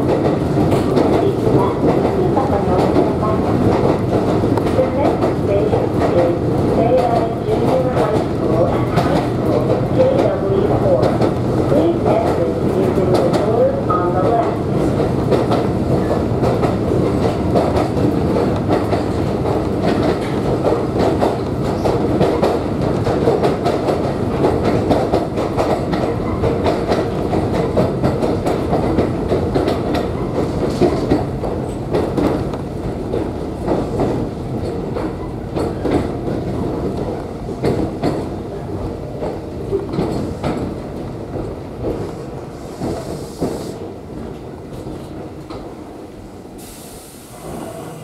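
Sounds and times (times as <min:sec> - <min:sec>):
wheels clacking over rail joints: 0:00.0 - 0:42.1
train rumble: 0:00.0 - 0:48.0.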